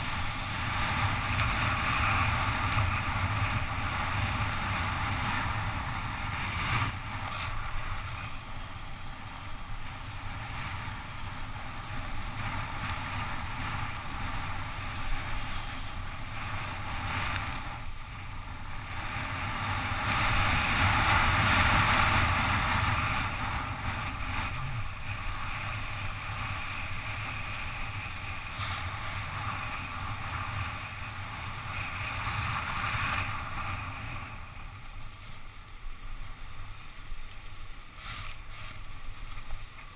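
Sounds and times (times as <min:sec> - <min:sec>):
bicycle tyres hissing on wet asphalt: 0:00.0 - 0:39.9
wind rushing over microphone: 0:00.0 - 0:39.9.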